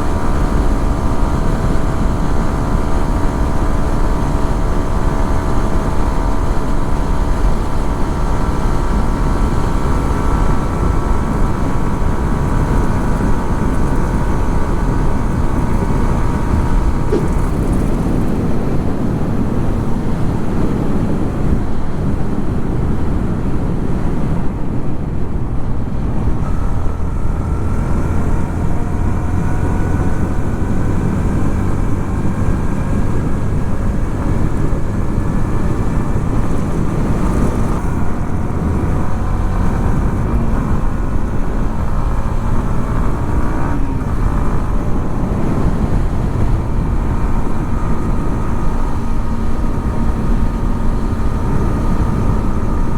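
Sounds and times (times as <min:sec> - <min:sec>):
motorcycle engine running: 0:00.0 - 0:23.7, 0:26.3 - 0:52.9
heavy low rumble: 0:00.0 - 0:52.9.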